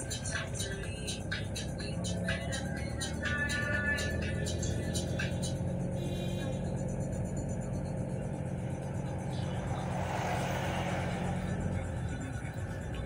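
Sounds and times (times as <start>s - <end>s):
car engine and tyre drone: 0.0s - 13.0s.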